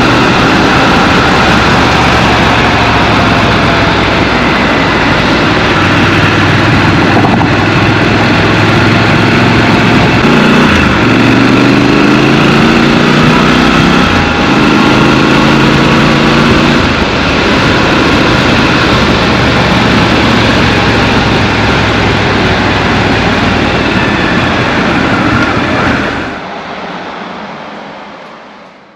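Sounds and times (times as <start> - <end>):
motorcycle engine revving: 0.0 - 26.4
wind rush: 0.0 - 26.4.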